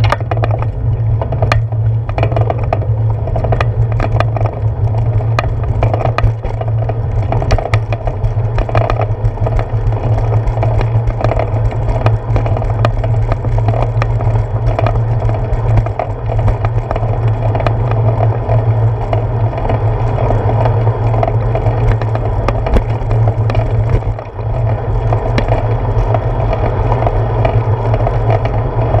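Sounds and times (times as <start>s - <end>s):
bicycle tyres rolling on concrete: 0.0s - 29.0s
wheels ticking over slab joints: 0.0s - 29.0s.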